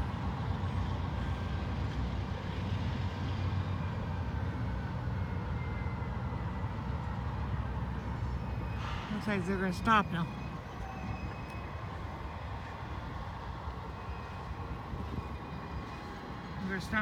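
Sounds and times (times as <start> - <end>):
freight train rumble: 0.0 - 17.0.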